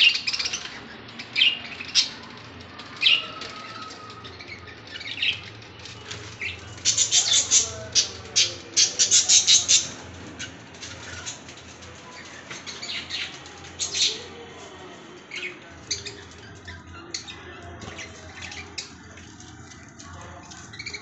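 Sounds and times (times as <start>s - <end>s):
lovebirds chirping and squawking: 0.0s - 14.5s, 15.2s - 21.0s.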